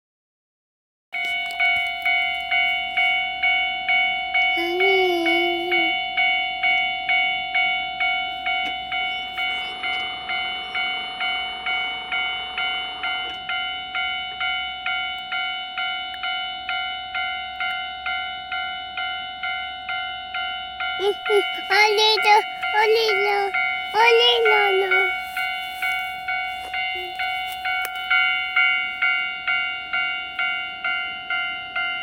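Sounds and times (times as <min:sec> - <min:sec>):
level crossing bell dinging: 0:01.2 - 0:32.0.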